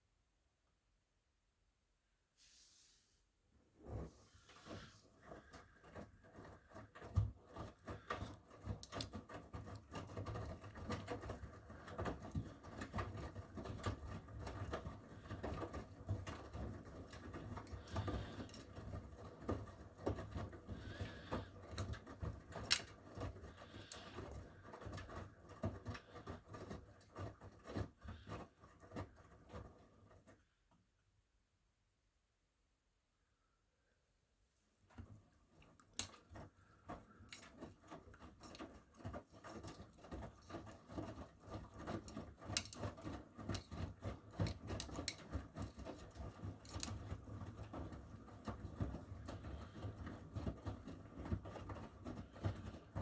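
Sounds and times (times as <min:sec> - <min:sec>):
washing machine drum tumbling laundry: 0:03.8 - 0:30.4, 0:34.8 - 0:53.0.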